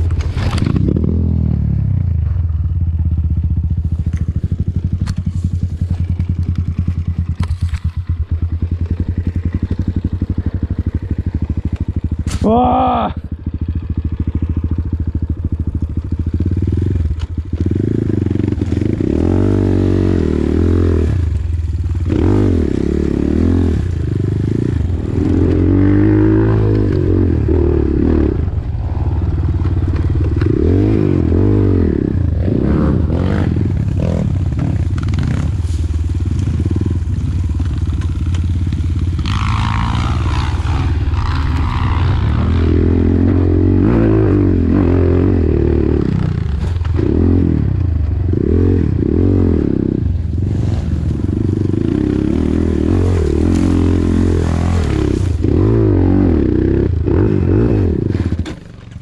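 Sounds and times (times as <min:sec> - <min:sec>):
dirt bike engine revving: 0:00.0 - 0:02.4, 0:04.3 - 0:59.0.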